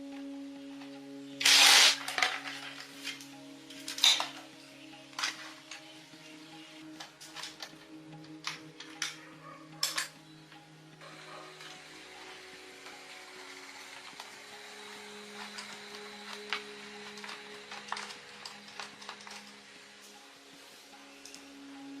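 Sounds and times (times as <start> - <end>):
steady hiss: 0.0 - 8.7, 11.0 - 22.0.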